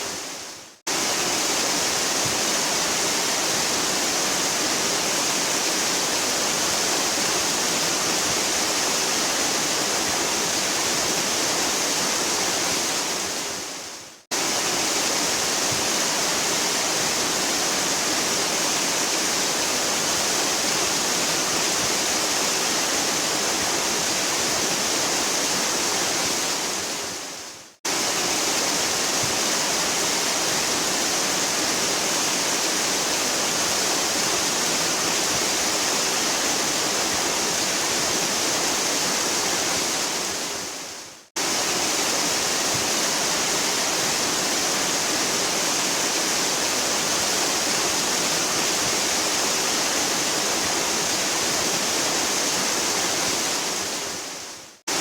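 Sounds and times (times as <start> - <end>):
heavy waterfall rushing: 0.0 - 55.0.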